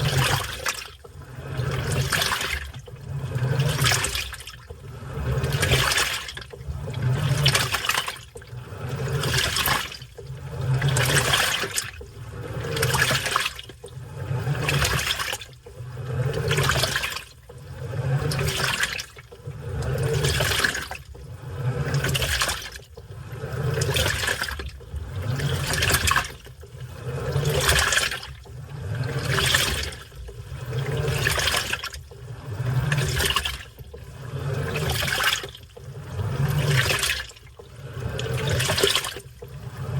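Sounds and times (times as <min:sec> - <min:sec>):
low motor hum: 0:00.0 - 0:39.9
washing machine water sloshing: 0:00.0 - 0:39.9.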